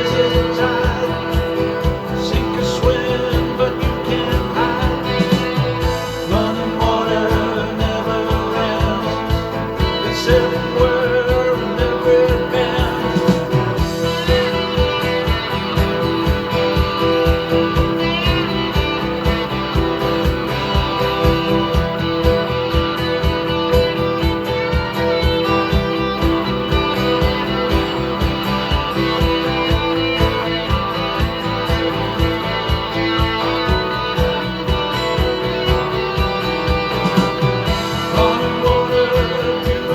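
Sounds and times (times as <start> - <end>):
guitar-led song with steady beat: 0.0 - 39.9.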